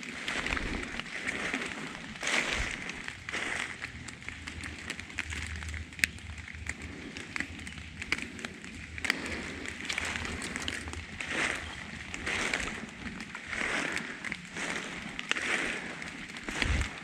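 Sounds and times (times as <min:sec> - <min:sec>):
footsteps in damp leaves: 0:00.0 - 0:17.0
twigs ticking: 0:00.0 - 0:17.0.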